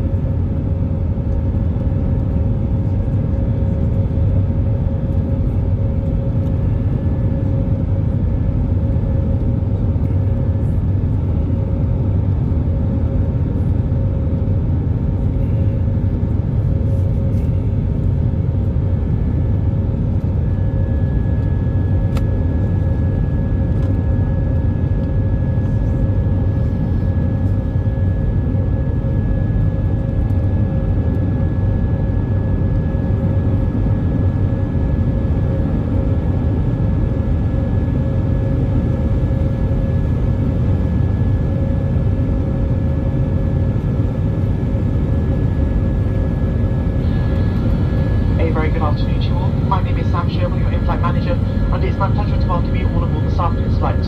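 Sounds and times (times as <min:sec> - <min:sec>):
jet engine rumble in cabin: 0:00.0 - 0:54.0
steady engine whine: 0:00.0 - 0:54.0.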